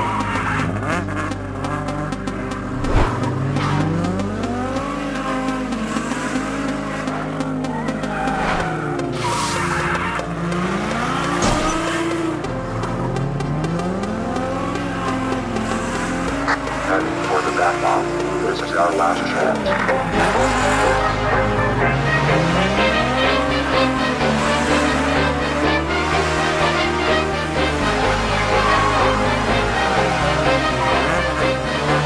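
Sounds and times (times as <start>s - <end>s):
sports car engine revving: 0.0s - 32.0s.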